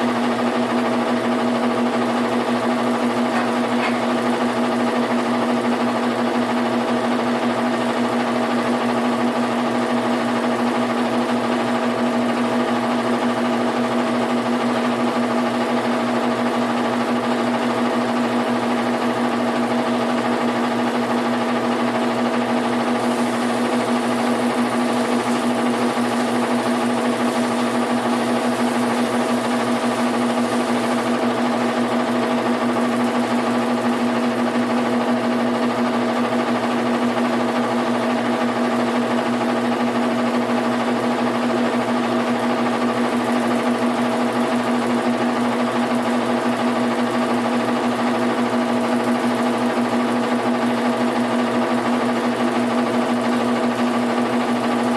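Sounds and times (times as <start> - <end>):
washing machine humming: 0.0 - 54.9.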